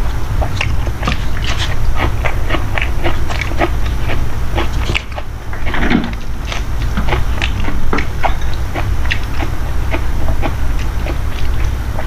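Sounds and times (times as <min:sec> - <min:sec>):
low hum: 0:00.0 - 0:12.0
person chewing food: 0:00.0 - 0:12.0.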